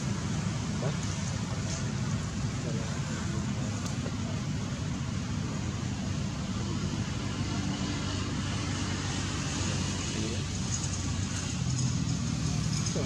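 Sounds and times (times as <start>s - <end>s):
engine low hum: 0.0s - 13.0s.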